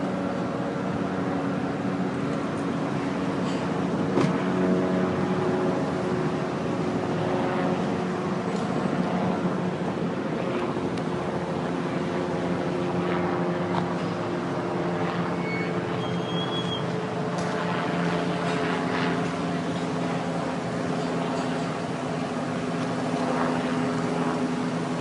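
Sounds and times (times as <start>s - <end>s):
helicopter engine hum: 0.0s - 25.0s.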